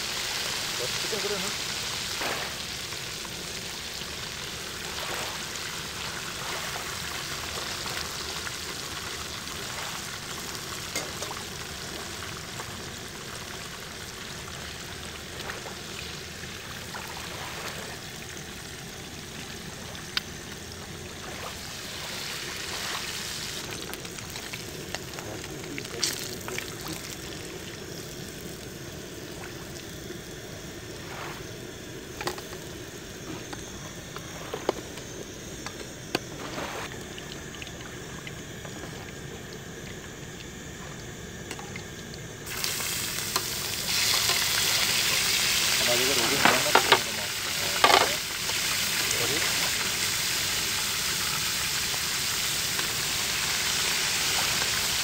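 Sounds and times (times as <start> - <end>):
fish sizzling in hot oil: 0.0 - 36.1, 36.9 - 55.0.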